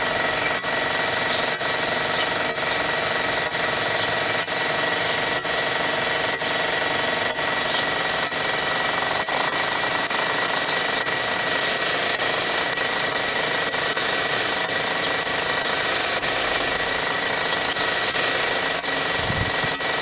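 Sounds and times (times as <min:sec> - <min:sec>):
belt grinder grinding wood: 0:00.0 - 0:20.0.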